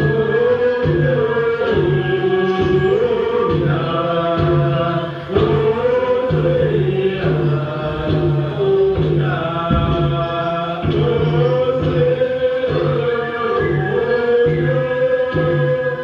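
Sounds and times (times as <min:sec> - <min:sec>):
chanted group singing: 0:00.0 - 0:16.0.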